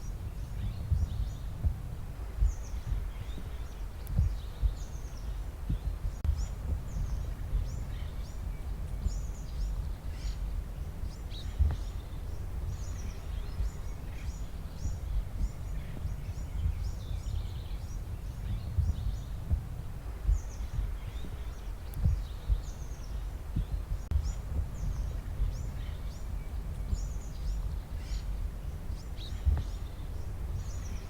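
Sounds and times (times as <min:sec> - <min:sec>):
low background rumble: 0:00.0 - 0:31.0
small birds chirping: 0:00.0 - 0:31.0.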